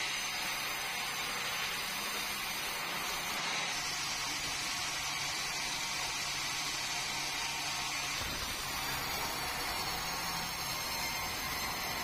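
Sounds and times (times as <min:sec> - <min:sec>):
band saw blade whirring: 0:00.0 - 0:12.0.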